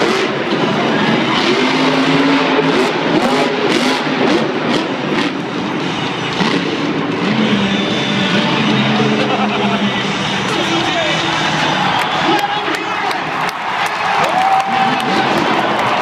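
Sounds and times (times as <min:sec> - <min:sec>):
monster truck engines revving: 0:00.0 - 0:16.0
stadium crowd din: 0:00.0 - 0:16.0.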